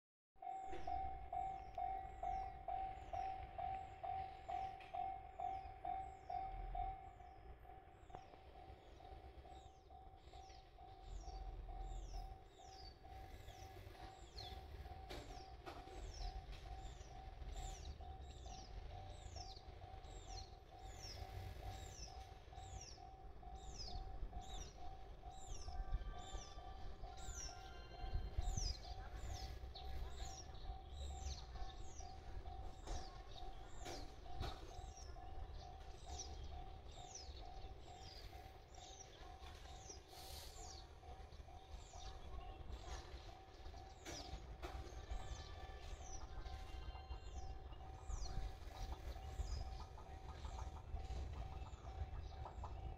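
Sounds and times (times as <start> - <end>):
level crossing warning bell: 0.4 - 52.9
birds chirping: 0.5 - 52.9.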